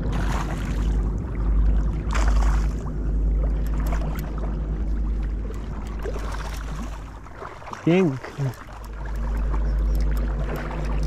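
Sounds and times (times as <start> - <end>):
low rumble on microphone: 0.0 - 11.0.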